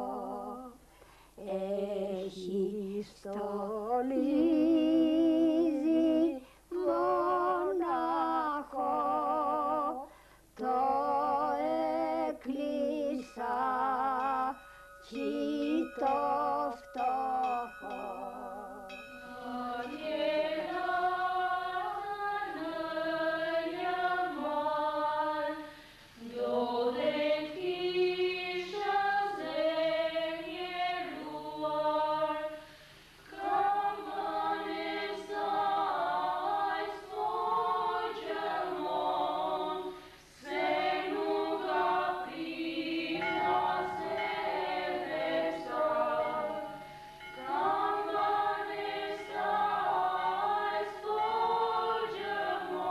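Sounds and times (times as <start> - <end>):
choir singing religious song: 0.0 - 0.8, 1.4 - 52.9.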